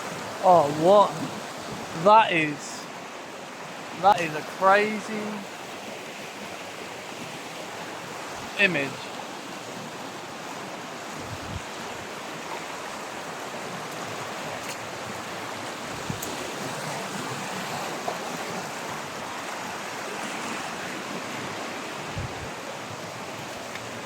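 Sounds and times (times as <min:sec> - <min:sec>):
river flowing: 0:00.0 - 0:24.0.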